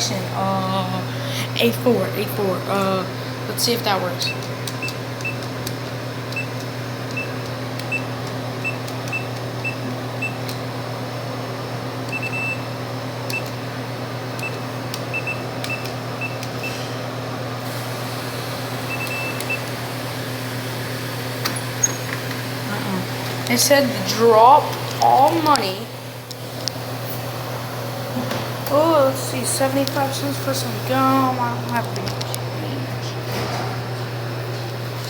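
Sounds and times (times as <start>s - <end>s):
vending machine low hum: 0.0s - 35.0s.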